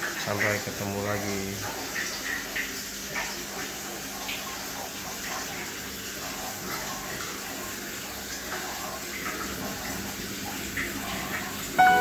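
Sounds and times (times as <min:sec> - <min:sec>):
water trickling in fish tank: 0:00.0 - 0:12.0.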